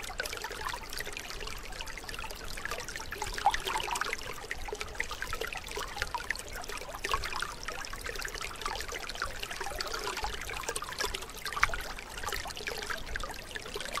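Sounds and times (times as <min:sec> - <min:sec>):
water trickling and gurgling: 0:00.0 - 0:14.0.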